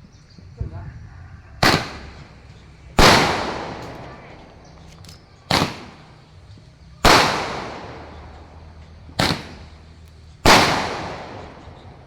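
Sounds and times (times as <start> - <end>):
firecracker bangs echoing: 1.6 - 12.0.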